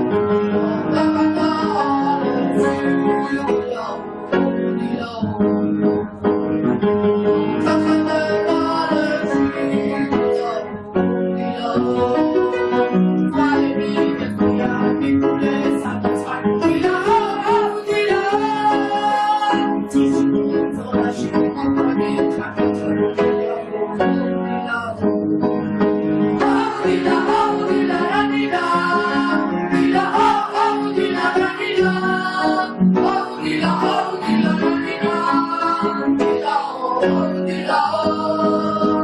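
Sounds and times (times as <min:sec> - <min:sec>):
person singing: 0:00.0 - 0:05.6, 0:07.5 - 0:23.9, 0:26.4 - 0:39.0
song with guitar and piano: 0:00.0 - 0:39.0.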